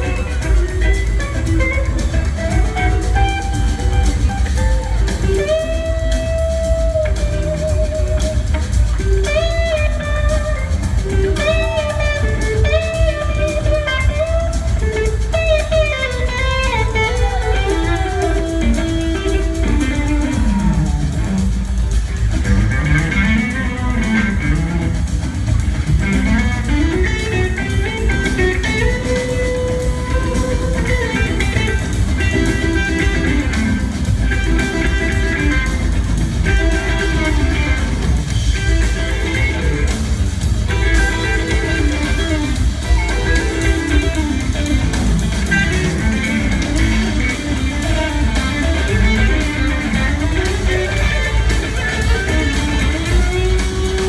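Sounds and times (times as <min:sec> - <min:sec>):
drums and bass: 0:00.0 - 0:54.0
electric guitar solo: 0:00.0 - 0:54.0.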